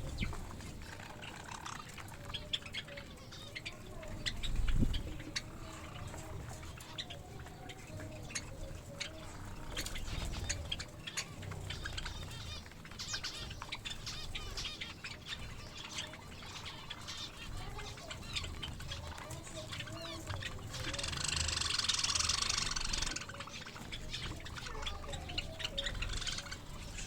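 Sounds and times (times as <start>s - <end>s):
finches chirping: 0.0s - 27.0s.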